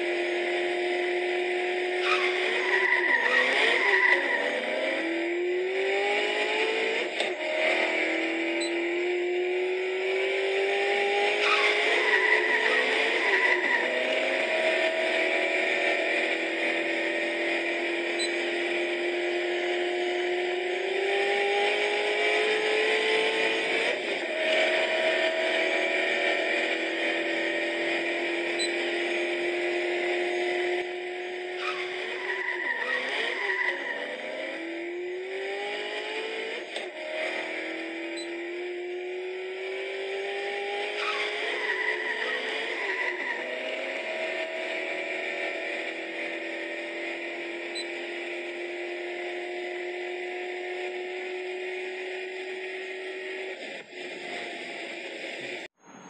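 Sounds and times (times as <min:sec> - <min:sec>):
car engine revving through gears: 0:00.0 - 0:56.0.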